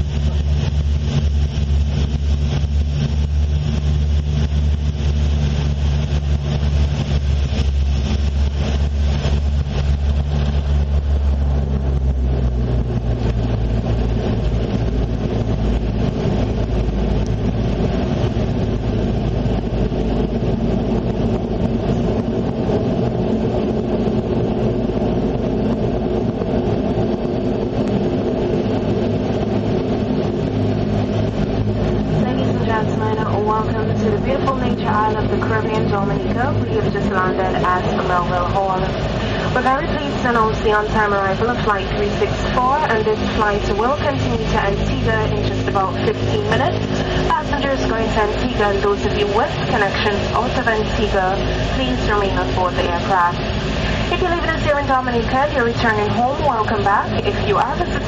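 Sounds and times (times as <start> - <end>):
aircraft rumble on runway: 0.0 - 58.0
propeller drone in cabin: 0.0 - 58.0.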